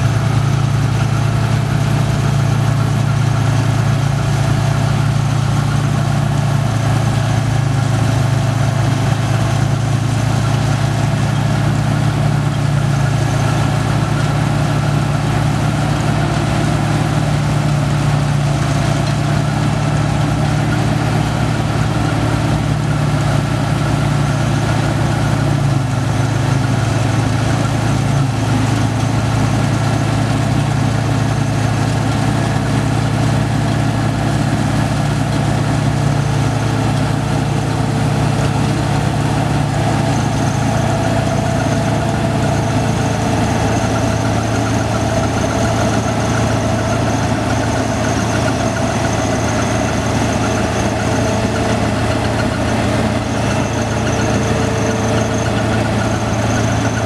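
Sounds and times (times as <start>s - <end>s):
combine harvester engine droning: 0.0s - 57.0s.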